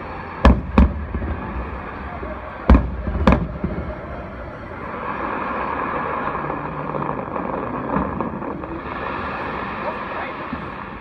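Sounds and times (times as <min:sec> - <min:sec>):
distant fireworks burst echo: 0:00.0 - 0:11.0
fireworks rushing hiss: 0:00.0 - 0:11.0.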